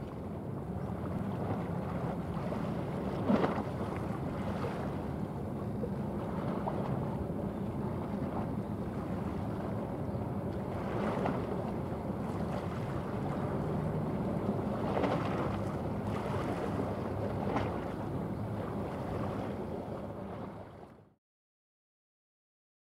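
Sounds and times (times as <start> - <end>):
ship engine drone: 0.0 - 21.0
water washing along hull: 0.0 - 21.1.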